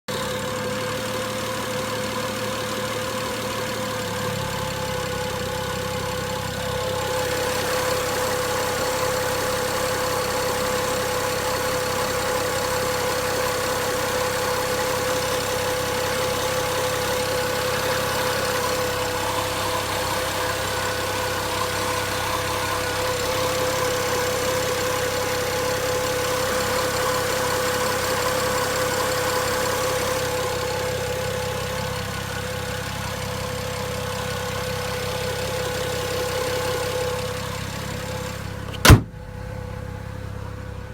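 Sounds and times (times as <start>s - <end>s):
car engine idling: 0.1s - 40.9s.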